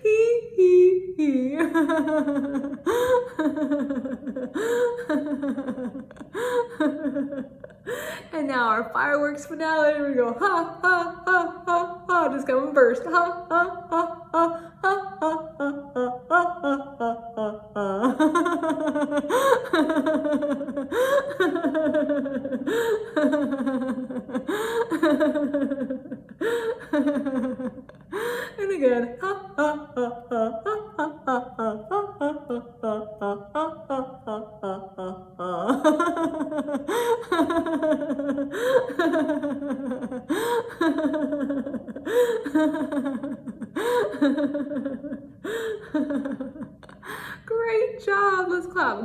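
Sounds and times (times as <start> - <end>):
woman laughing hard: 1.5 - 8.2, 10.4 - 47.3.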